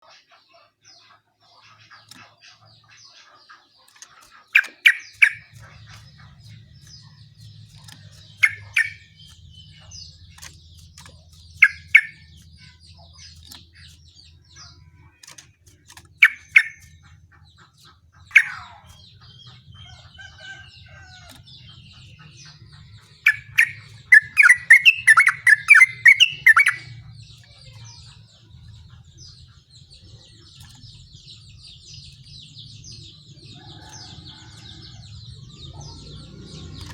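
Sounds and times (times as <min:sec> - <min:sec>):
faint bird chirping: 0:00.0 - 0:36.9
bulbul singing: 0:00.9 - 0:36.9
faint low hum: 0:04.7 - 0:36.9.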